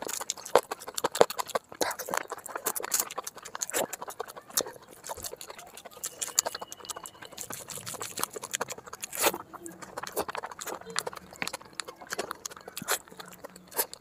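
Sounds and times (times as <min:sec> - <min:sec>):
fingers squishing oily rice: 0:00.0 - 0:14.0
wet chewing and lip-smacking: 0:00.0 - 0:14.0.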